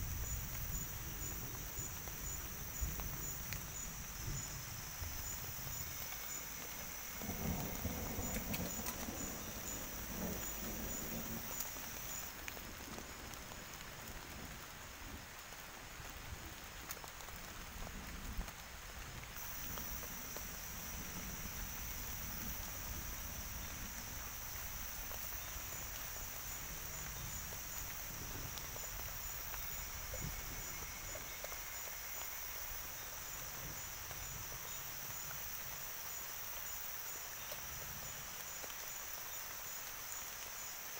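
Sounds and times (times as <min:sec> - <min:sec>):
insects trilling: 0:00.0 - 0:13.8, 0:18.7 - 0:40.9
dripping water hiss: 0:00.0 - 0:40.9.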